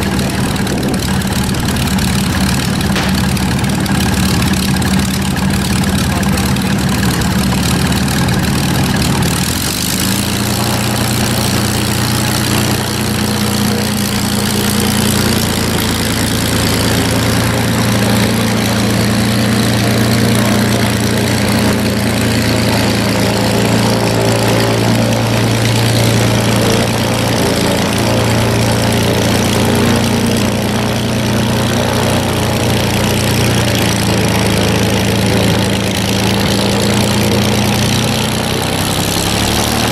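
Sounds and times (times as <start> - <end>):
aircraft piston engine running: 0.0 - 39.9.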